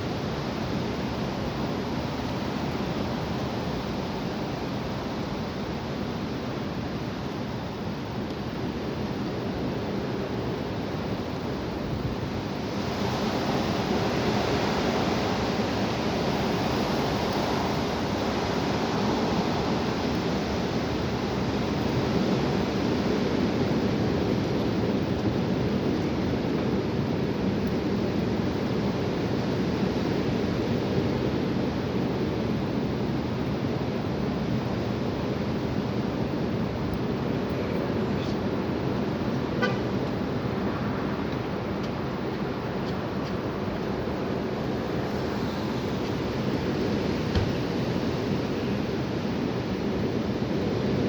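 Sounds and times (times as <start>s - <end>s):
high wind blowing: 0.0s - 51.0s.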